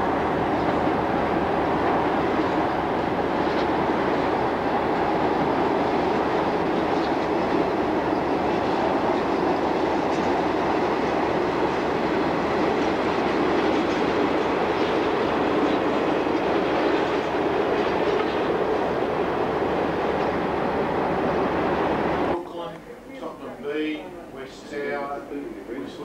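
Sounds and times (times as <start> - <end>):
train wheels on track: 0.0 - 22.4.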